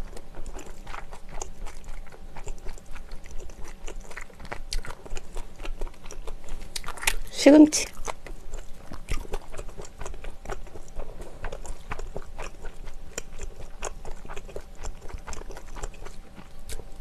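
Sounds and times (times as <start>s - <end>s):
close chewing with mouth clicks: 0.0s - 17.0s.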